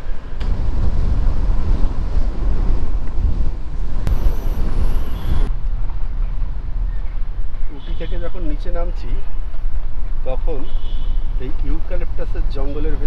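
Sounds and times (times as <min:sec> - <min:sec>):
road noise: 0:00.0 - 0:13.0
wind rumbling on microphone: 0:00.0 - 0:13.0.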